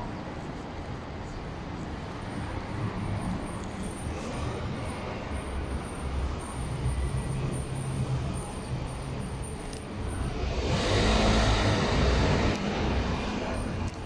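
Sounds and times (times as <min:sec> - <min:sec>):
traffic engine rumble: 0:00.0 - 0:14.0.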